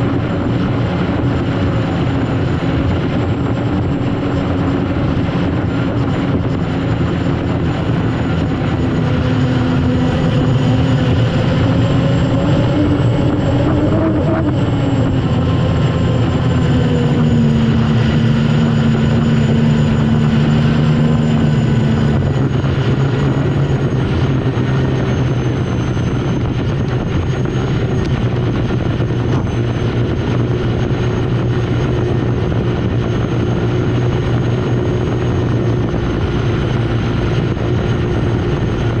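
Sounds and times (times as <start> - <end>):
turbine engine whine and drone: 0.0 - 39.0.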